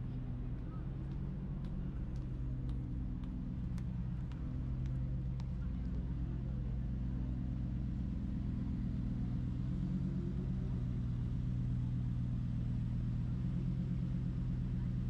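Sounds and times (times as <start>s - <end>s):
low traffic engine hum: 0.0s - 15.0s.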